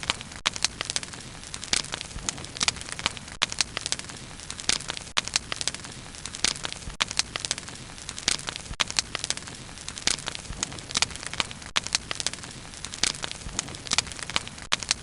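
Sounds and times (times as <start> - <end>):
steady fire hiss: 0.0 - 15.0
wood fire crackling and popping: 0.0 - 15.0.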